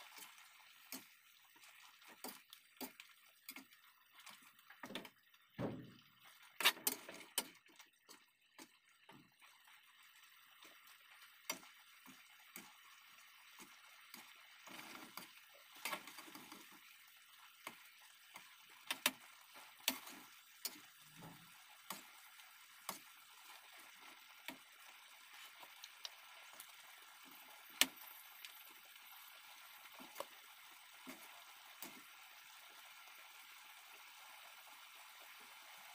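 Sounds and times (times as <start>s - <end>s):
faint steady hiss: 0.0s - 35.9s.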